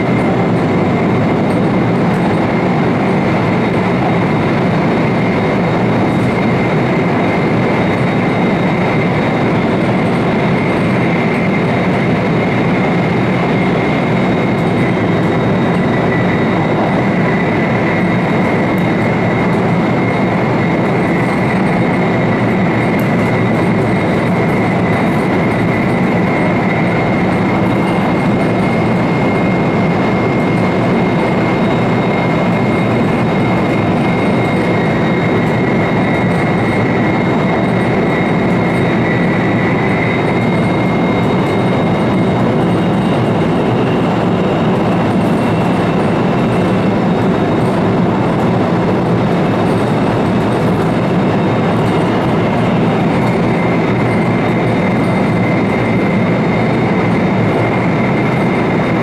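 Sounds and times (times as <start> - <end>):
high whine: 0.0 - 59.0
train wheels rumbling: 0.0 - 59.0.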